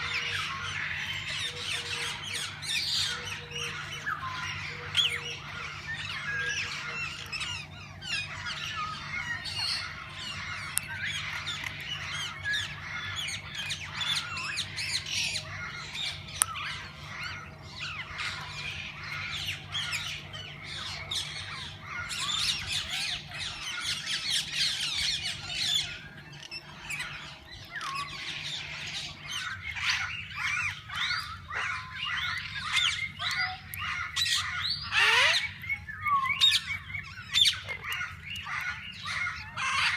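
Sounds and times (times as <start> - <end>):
parakeets chattering and squawking: 0.0 - 39.9.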